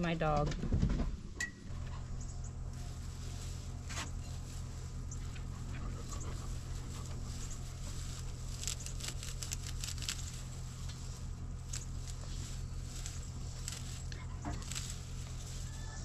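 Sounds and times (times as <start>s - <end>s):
steady low hum: 0.0s - 16.0s
leafy plants rustling: 1.7s - 16.0s
crisp snips and crackles: 2.8s - 16.0s.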